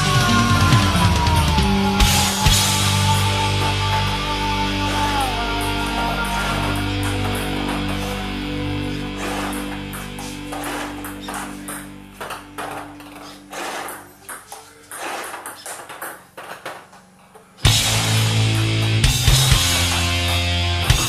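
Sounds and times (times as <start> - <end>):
loud heavy rock music: 0.0 - 13.6, 17.6 - 21.0
quiet rock music: 0.0 - 15.3, 17.4 - 21.0.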